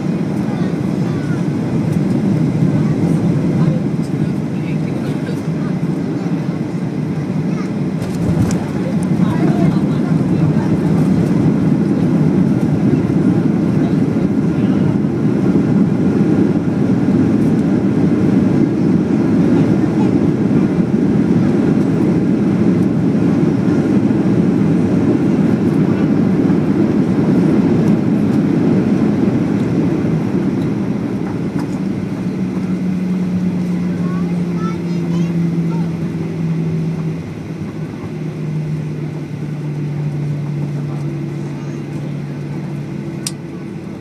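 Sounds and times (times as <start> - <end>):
jet engines roaring in cabin: 0.0 - 44.0.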